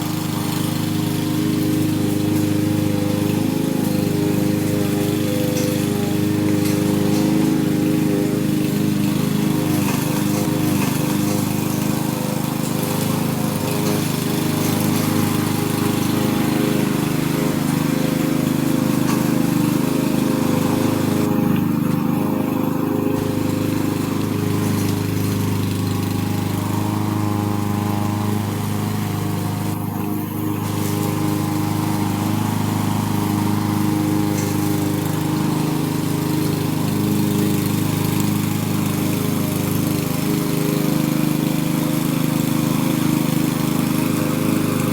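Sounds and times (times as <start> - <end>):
lawn mower running: 0.0 - 44.9.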